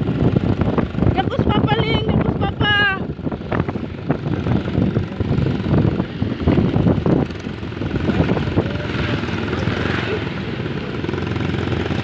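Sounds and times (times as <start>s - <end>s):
motor vehicle rumbling on road: 0.0s - 12.0s
wind buffeting microphone: 0.0s - 12.0s.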